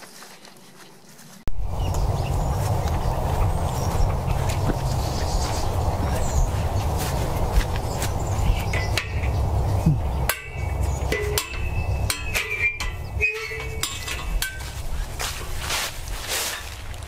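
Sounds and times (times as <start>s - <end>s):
wind rumble on microphone: 1.5s - 17.0s.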